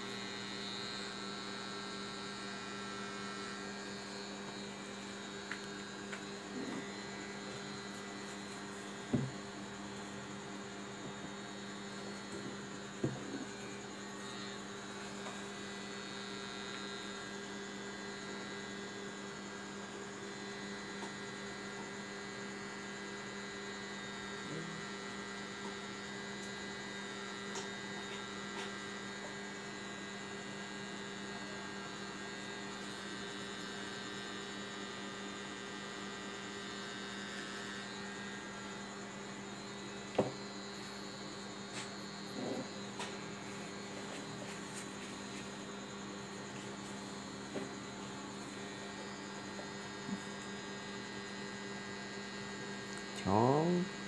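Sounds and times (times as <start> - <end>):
tattoo machine humming: 0.0 - 54.0.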